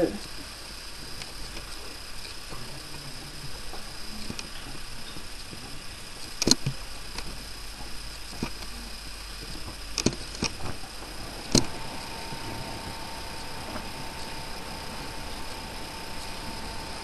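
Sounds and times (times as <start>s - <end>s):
camera hiss: 0.0s - 17.0s
faint steady tone: 0.0s - 17.0s.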